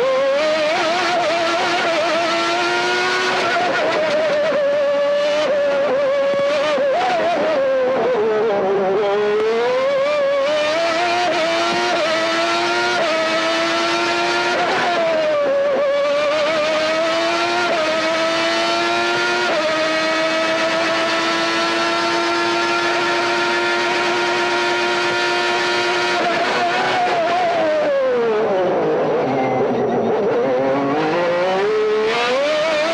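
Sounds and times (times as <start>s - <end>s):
racing car engine at full throttle: 0.0s - 32.9s.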